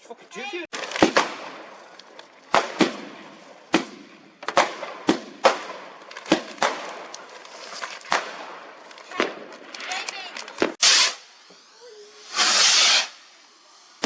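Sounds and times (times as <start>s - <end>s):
fireworks banging with echo: 0.7s - 13.2s.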